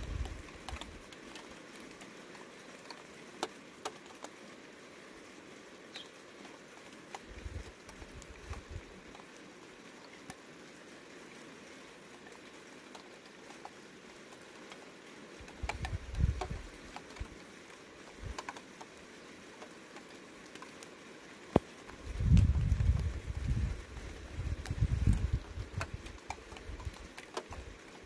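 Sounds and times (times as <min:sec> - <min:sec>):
light ticks: 0:00.0 - 0:04.4, 0:05.9 - 0:09.4, 0:10.0 - 0:10.4, 0:12.1 - 0:28.0
faint steady hiss: 0:00.0 - 0:28.0.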